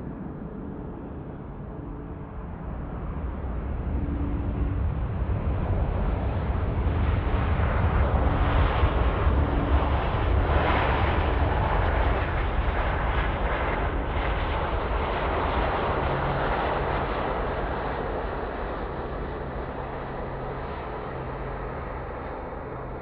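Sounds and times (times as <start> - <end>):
jet engines in reverse thrust: 0.0 - 23.0.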